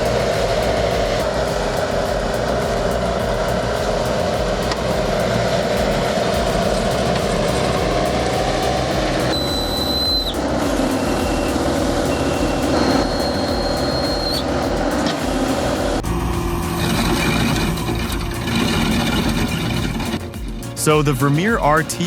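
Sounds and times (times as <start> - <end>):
heavy equipment engine running: 0.0 - 22.0
thin high whine: 0.0 - 22.0.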